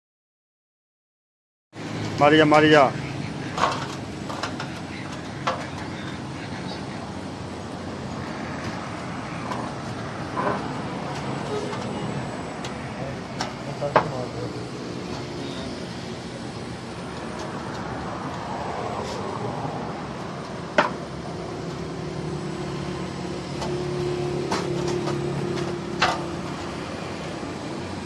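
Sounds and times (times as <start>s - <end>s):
engine-like hum: 1.8s - 28.0s.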